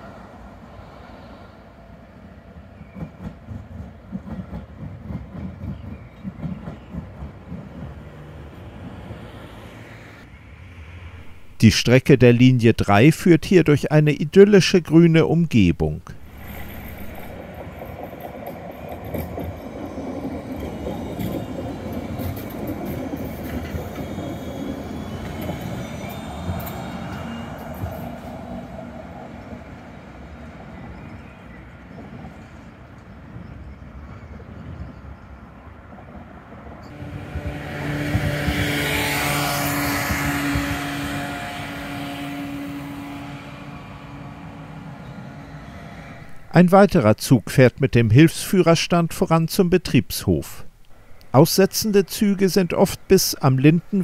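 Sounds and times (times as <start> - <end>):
tram wheels rumbling on rails: 0.0 - 13.6, 16.0 - 46.7
tram traction drive hum: 2.2 - 13.9, 15.0 - 33.8, 36.1 - 54.0.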